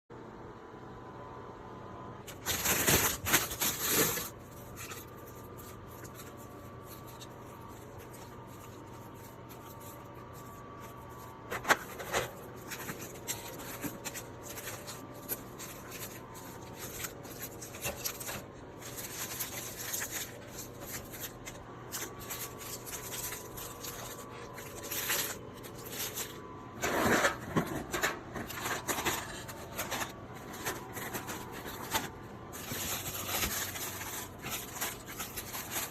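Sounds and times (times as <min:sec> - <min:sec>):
plastic wrappers rustling: 0:02.2 - 0:35.9.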